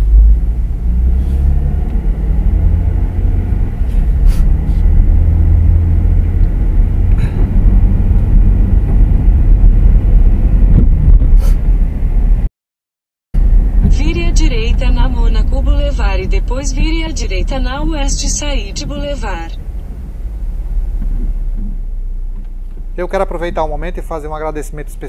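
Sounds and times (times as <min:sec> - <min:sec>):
car engine and road noise: 0:00.0 - 0:12.5, 0:13.4 - 0:25.0.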